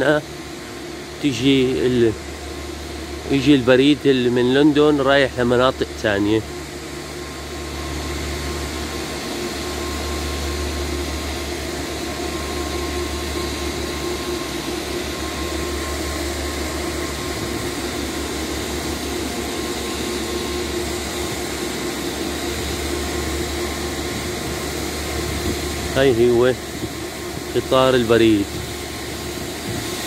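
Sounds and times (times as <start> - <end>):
diesel locomotive engine drone: 0.0 - 30.0
faint steady whine: 0.0 - 30.0.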